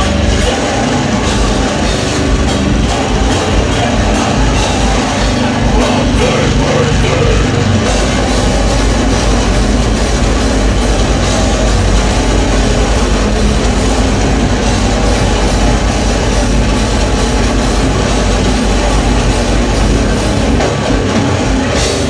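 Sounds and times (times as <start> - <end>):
punk band playing live: 0.0 - 22.0.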